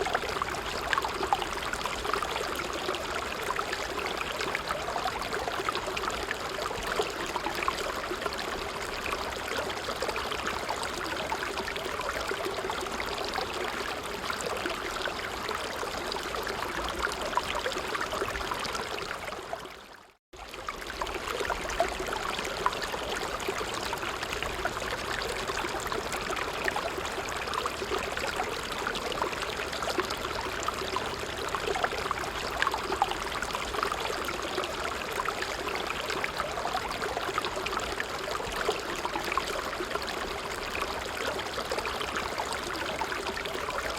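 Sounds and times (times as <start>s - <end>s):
stream babbling over stones: 0.0s - 43.9s.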